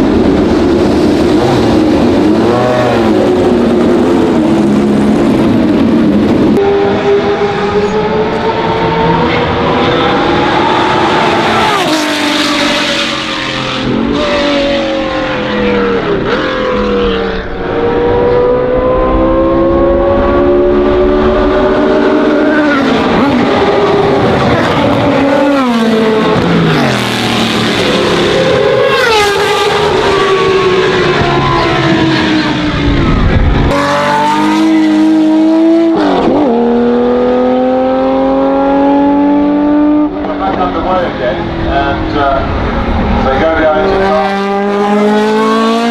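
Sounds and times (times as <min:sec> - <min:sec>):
racing car engines at full throttle: 0:00.0 - 0:45.9.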